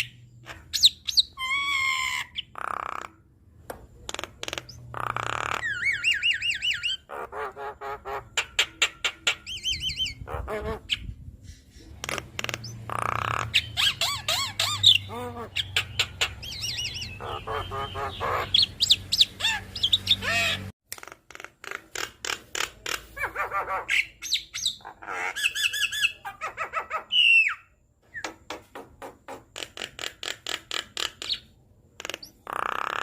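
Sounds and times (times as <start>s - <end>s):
bird chattering song: 0.0s - 3.2s, 4.0s - 20.7s, 21.7s - 33.0s.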